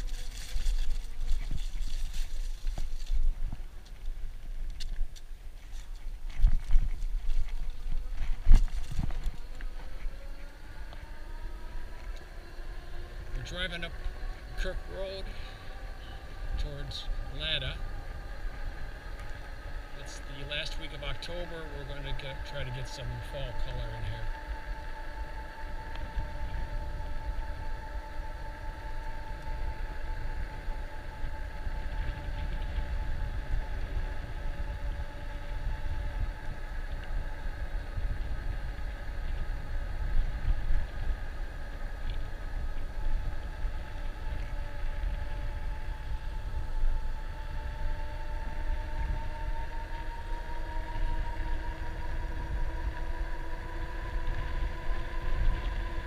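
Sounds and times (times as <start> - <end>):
electric bike motor whining: 0.0 - 56.0
wind on microphone: 0.0 - 56.0.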